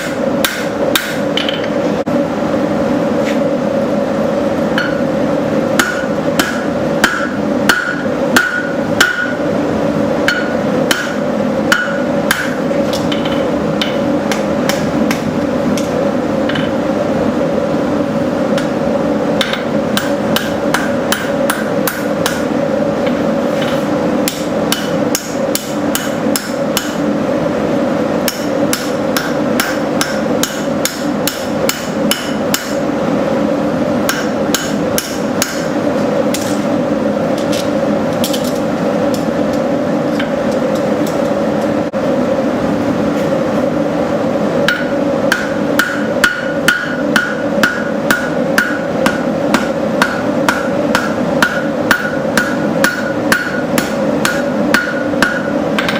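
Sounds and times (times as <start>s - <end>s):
steady hum: 0.0s - 55.9s.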